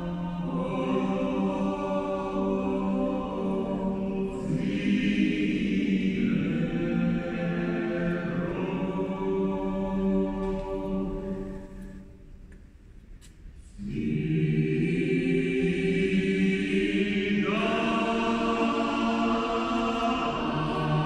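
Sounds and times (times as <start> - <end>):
mixed choir singing a cappella: 0.0 - 12.2, 13.7 - 21.0.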